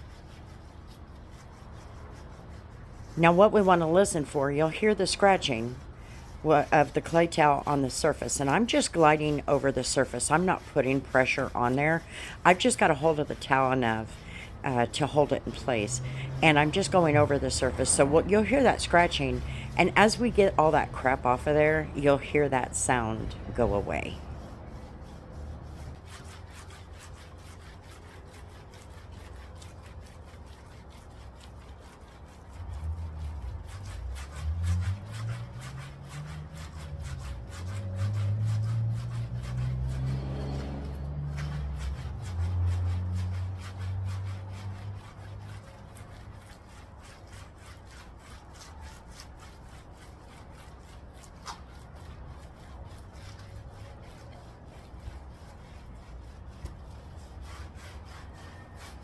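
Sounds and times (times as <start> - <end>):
clay towel scratching on paint: 0.0 - 59.0.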